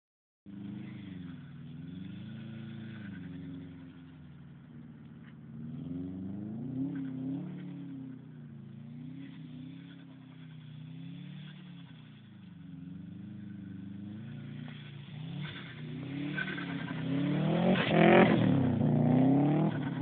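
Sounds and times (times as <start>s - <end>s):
car engine revving: 0.5s - 20.0s.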